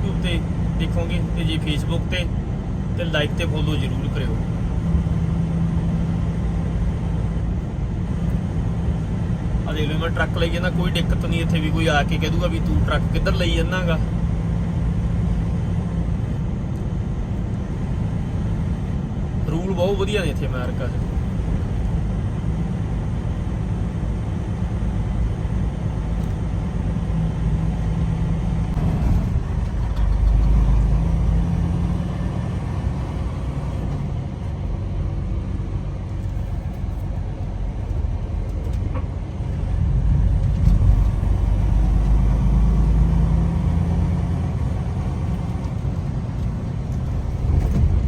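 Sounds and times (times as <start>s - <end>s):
road noise: 0.0s - 48.0s
truck diesel engine rumble: 0.0s - 48.0s.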